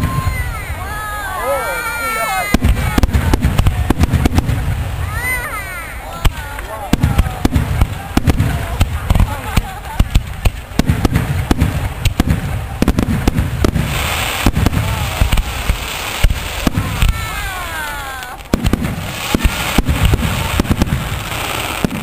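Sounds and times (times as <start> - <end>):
fireworks booming: 0.0 - 22.0
fireworks crackling: 0.0 - 22.0.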